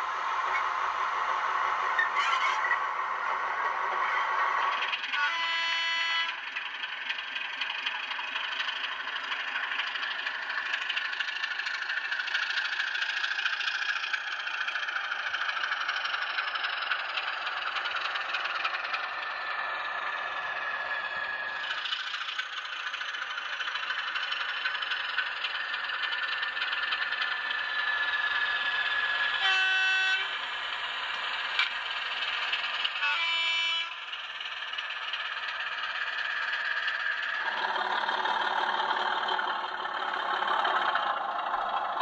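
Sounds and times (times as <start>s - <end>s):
model train running on track: 0.0s - 42.0s.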